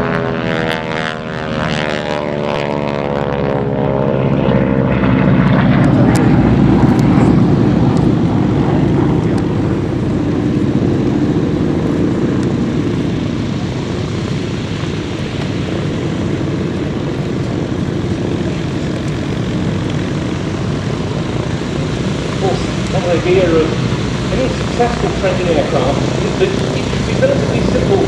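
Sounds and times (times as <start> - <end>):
radial engine and propeller droning: 0.0 - 28.0.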